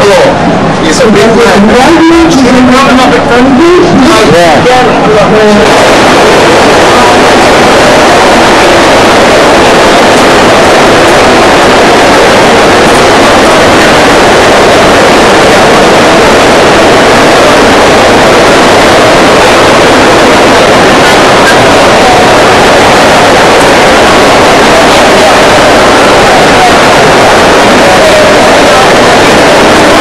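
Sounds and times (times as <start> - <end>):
crowd hubbub: 0.0 - 30.0.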